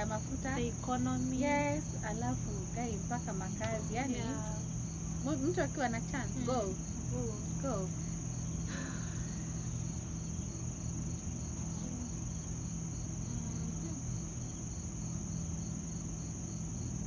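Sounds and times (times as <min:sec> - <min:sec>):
crickets chirring: 0:00.0 - 0:17.0
low hum: 0:00.0 - 0:17.0.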